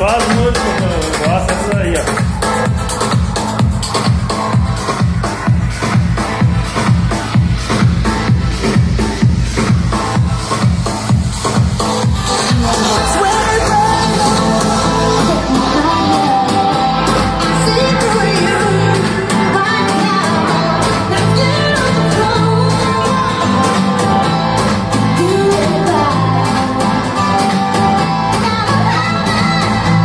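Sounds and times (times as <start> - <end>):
song playing through speaker: 0.0 - 30.0.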